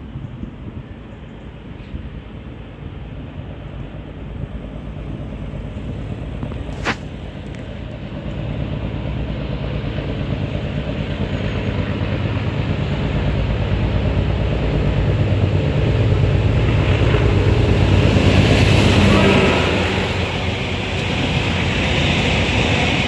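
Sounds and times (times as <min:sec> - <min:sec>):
diesel locomotive working hard: 0:00.0 - 0:23.0
train of wagons approaching: 0:00.0 - 0:23.0.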